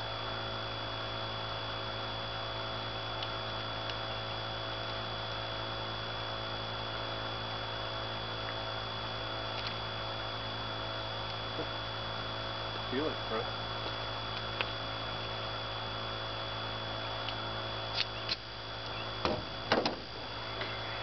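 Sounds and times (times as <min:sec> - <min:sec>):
steady low hum: 0:00.0 - 0:21.0
thin high whine: 0:00.0 - 0:21.0.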